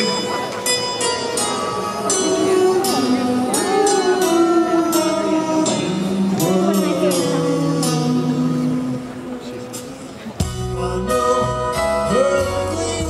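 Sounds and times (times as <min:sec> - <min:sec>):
chiming keyboard notes: 0:00.0 - 0:13.0
live band playing a ballad: 0:00.0 - 0:13.0
person singing: 0:01.4 - 0:09.8, 0:10.4 - 0:13.0.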